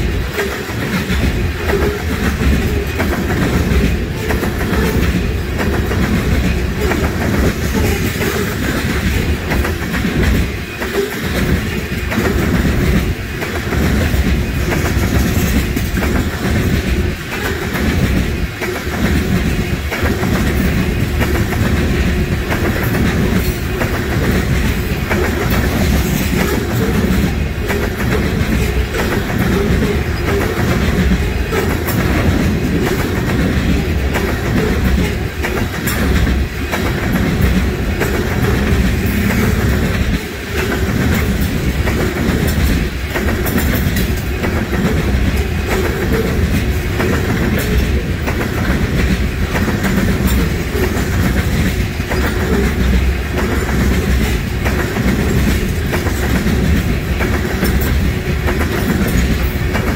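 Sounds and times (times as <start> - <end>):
steel wheels rolling on rails: 0.0 - 59.9
wheels clacking over rail joints: 0.0 - 59.9.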